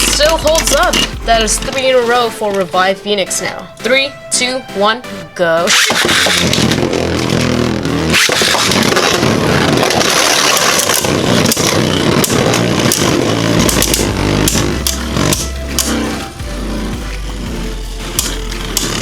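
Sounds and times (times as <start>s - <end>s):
tops clacking together: 0.0s - 2.9s, 5.7s - 19.0s
spinning tops whirring scrape: 0.0s - 3.4s, 5.7s - 19.0s.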